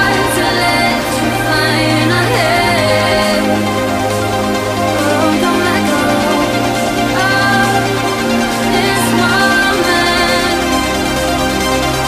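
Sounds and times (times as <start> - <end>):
sliding synth pitch: 0.0 - 12.0
sustained synth chords: 0.0 - 12.0.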